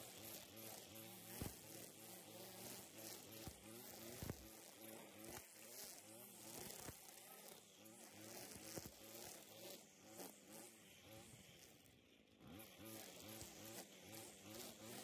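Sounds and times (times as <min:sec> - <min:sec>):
string trimmer motor buzz: 0:00.0 - 0:15.0.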